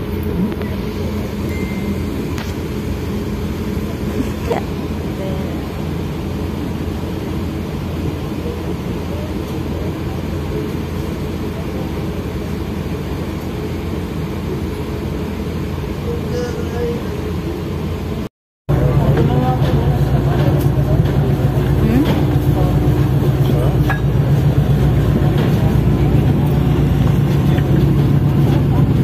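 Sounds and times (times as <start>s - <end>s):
faint passenger chatter: 0.0s - 29.0s
ferry engines droning: 0.0s - 29.0s.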